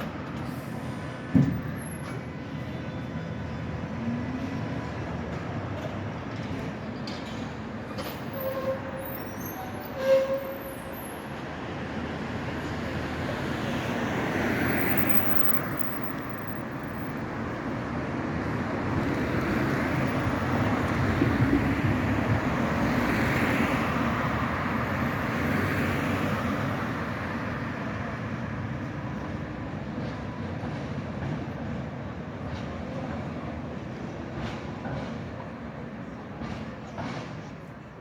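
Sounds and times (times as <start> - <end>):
tram and road traffic passing: 0.0 - 38.0.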